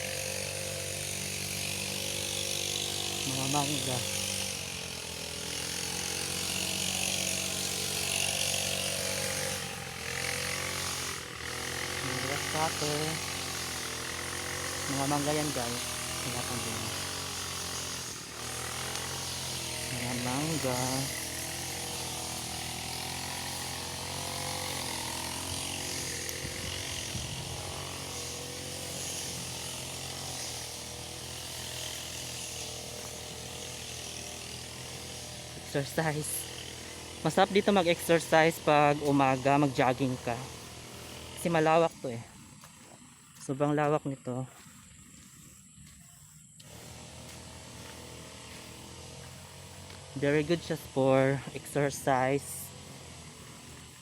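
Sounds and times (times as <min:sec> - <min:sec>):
brush cutter engine running: 0:00.0 - 0:54.0.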